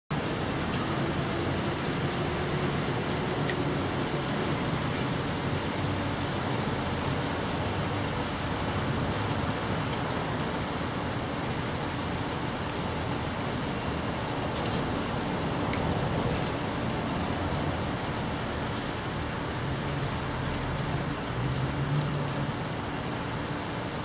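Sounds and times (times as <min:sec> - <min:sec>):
steady rain falling: 0:00.1 - 0:24.0
raindrop ticks: 0:00.2 - 0:24.0.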